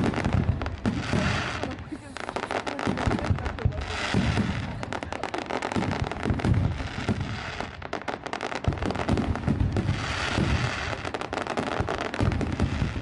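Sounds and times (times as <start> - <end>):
deep booms of fireworks bursting: 0.0 - 13.0
fireworks cracking and crackling: 0.0 - 13.0.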